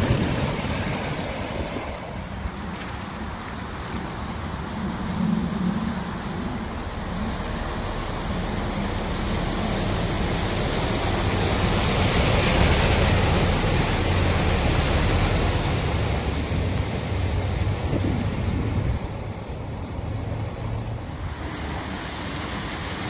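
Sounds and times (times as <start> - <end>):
lorry splashing through flood water: 0.0 - 23.0
low engine drone: 0.0 - 23.0.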